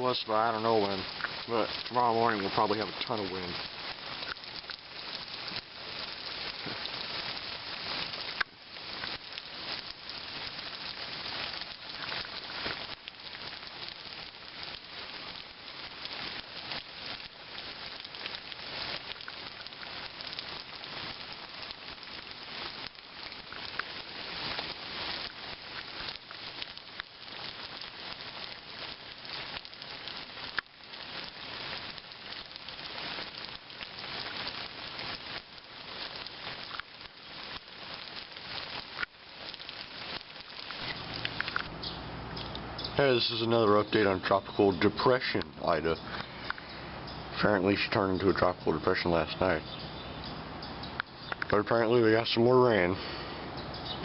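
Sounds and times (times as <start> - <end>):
rain patter: 0.0 - 54.0.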